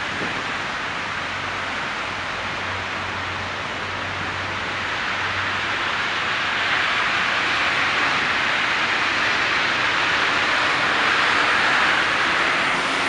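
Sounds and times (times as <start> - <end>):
traffic hissing on slushy street: 0.0 - 13.0
vehicle approaching: 0.0 - 13.0.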